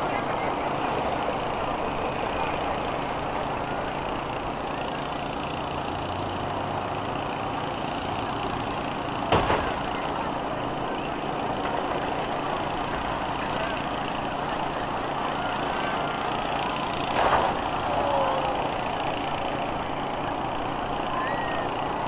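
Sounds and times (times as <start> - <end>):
bus engines running: 0.0 - 22.0.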